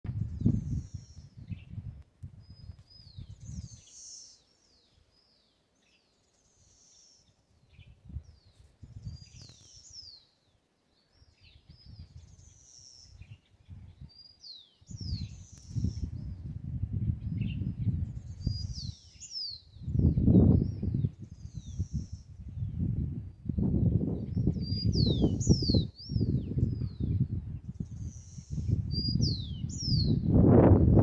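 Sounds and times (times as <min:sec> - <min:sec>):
wind rumble on microphone: 0:00.0 - 0:04.2, 0:07.5 - 0:10.2, 0:11.1 - 0:31.0
songbirds singing: 0:00.1 - 0:31.0.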